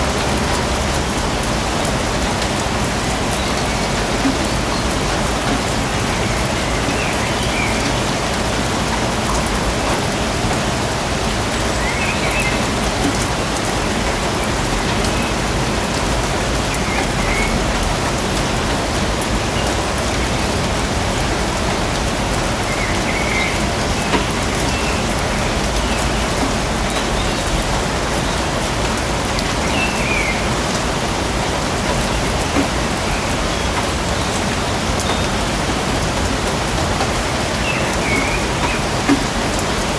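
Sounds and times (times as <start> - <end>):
rain falling on forest: 0.0 - 39.9.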